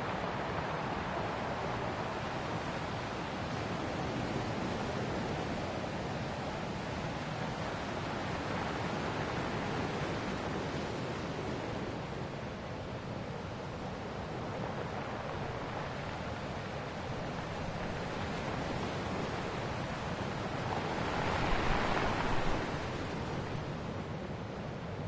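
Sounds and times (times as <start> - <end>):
ocean waves washing ashore: 0.0 - 25.0.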